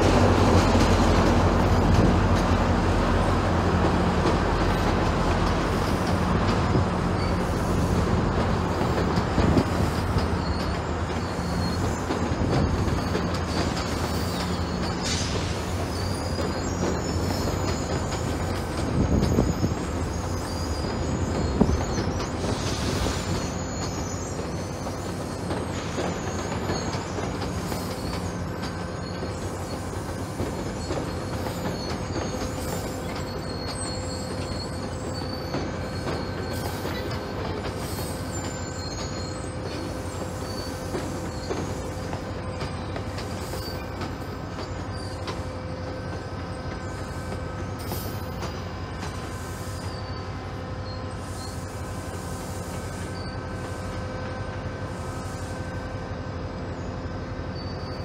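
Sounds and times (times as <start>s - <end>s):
train wheels rumbling on rail: 0.0s - 58.0s
high-pitched wheel squeal: 5.7s - 55.9s, 56.6s - 58.0s.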